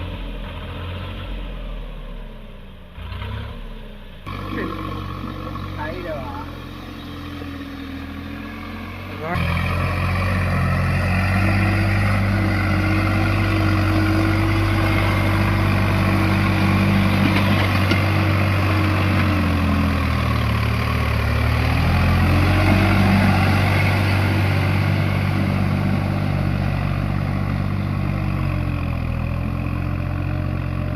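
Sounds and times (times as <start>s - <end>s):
tractor diesel engine under load: 0.0s - 30.9s.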